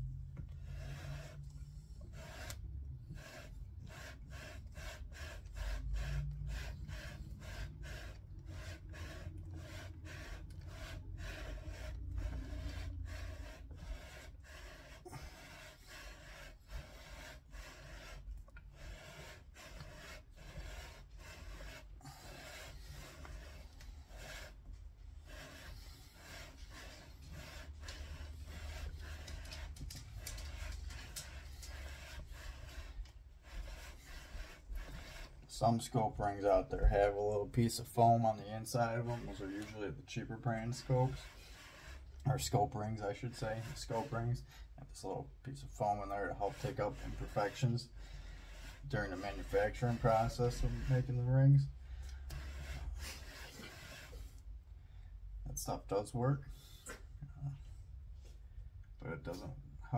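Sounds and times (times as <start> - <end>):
metal bar rubbing strokes: 0.6 - 54.4.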